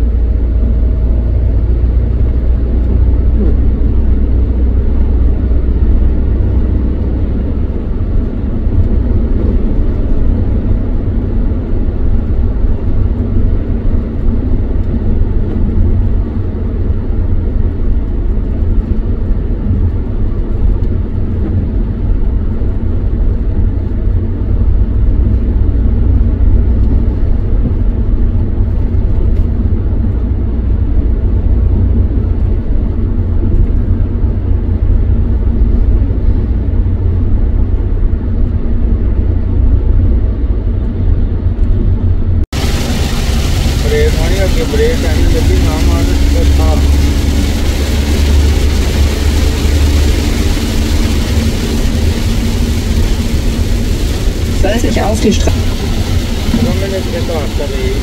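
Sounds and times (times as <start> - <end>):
car cabin road rumble: 0.0 - 58.0.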